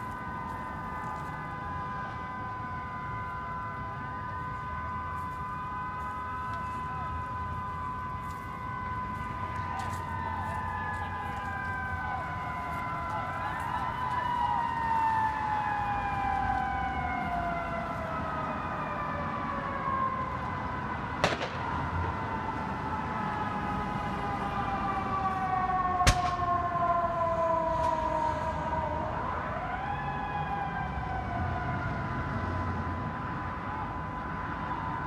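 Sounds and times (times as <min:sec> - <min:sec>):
emergency siren winding: 0:00.0 - 0:35.0.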